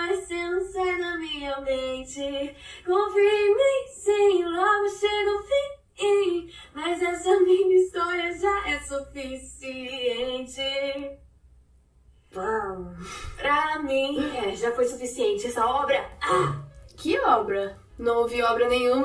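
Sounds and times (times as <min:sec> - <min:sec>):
woman singing unaccompanied: 0:00.0 - 0:11.2, 0:13.4 - 0:19.0.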